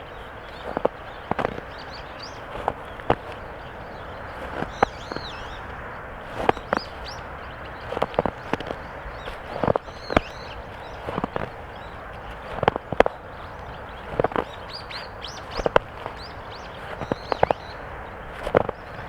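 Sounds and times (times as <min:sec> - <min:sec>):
footsteps crunching in snow: 0:00.0 - 0:19.0.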